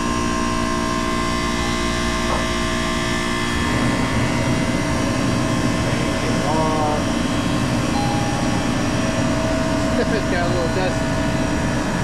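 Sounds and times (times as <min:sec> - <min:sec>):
deep rumble: 0:00.0 - 0:12.0
ice machine humming: 0:00.0 - 0:12.0.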